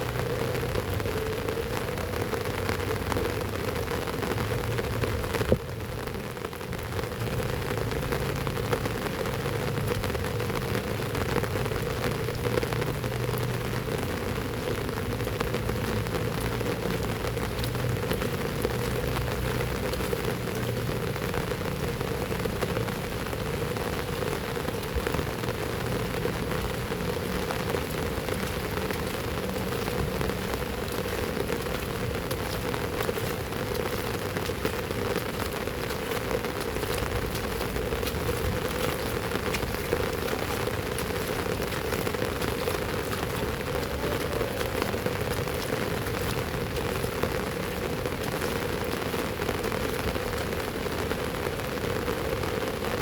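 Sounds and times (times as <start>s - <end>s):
heavy rain: 0.0s - 53.0s
raindrops ticking on hard surfaces: 0.0s - 53.0s.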